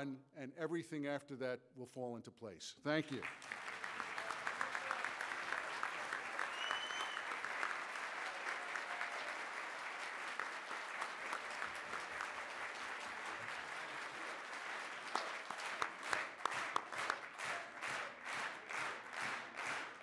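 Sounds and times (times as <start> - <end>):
large audience applauding: 3.1 - 20.0.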